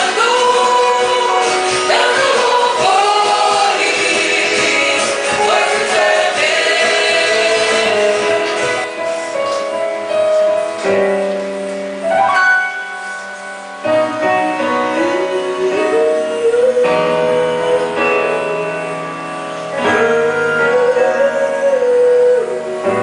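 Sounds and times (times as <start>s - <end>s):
piano background music: 0.0s - 23.0s
gliding melody line: 0.8s - 22.9s.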